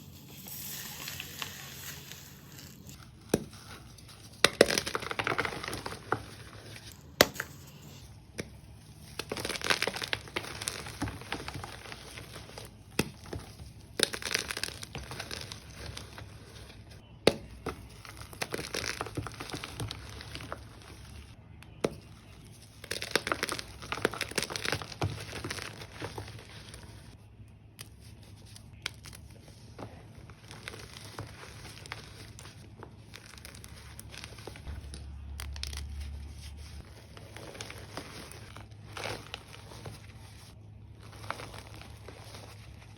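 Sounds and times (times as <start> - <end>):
chalk crushing and crackling: 0.0 - 27.2, 27.8 - 42.9.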